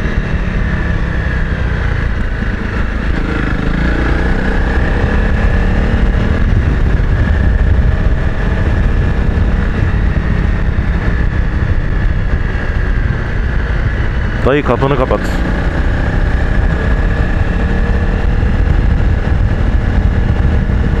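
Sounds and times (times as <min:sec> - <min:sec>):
motorcycle engine under throttle: 0:00.0 - 0:21.0.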